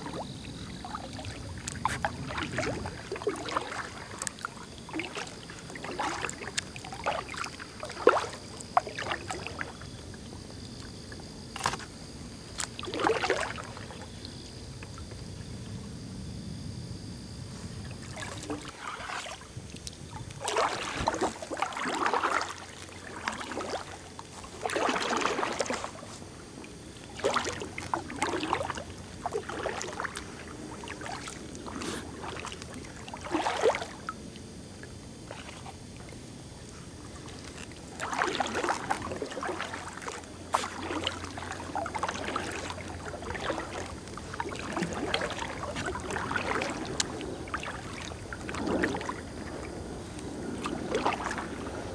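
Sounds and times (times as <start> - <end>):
kayak paddle splashing water: 0.0 - 10.3, 12.6 - 14.3, 17.9 - 34.2, 34.8 - 51.9.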